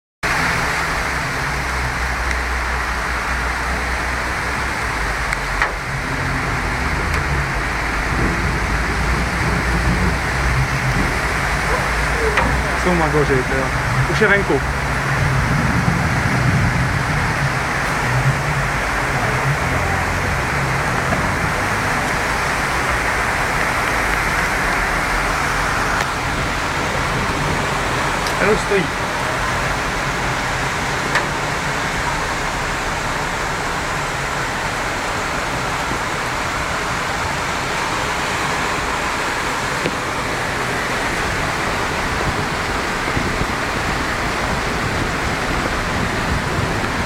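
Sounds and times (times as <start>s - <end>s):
floodwater rushing through street: 0.2s - 47.0s
heavy rain downpour: 0.2s - 47.0s.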